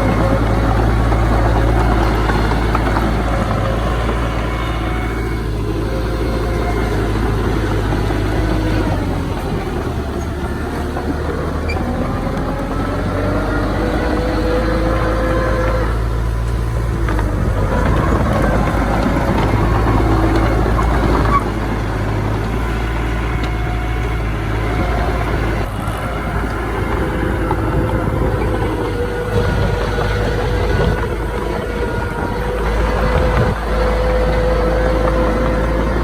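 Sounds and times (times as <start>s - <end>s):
heavy diesel machinery rumbling: 0.0s - 36.0s.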